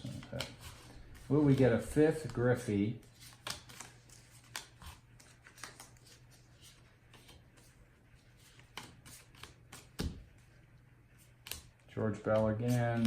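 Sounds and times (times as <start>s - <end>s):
cards flipped by hand: 0.0s - 7.7s, 8.4s - 10.2s, 11.2s - 13.0s.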